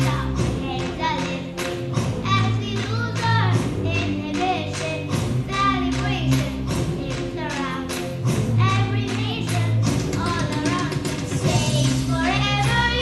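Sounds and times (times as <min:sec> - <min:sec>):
girls singing: 0:00.0 - 0:13.0
music with steady beat: 0:00.0 - 0:13.0.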